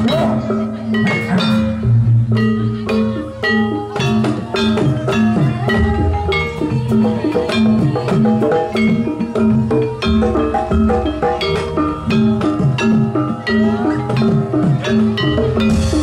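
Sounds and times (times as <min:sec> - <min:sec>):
hand drumming: 0:00.0 - 0:16.0.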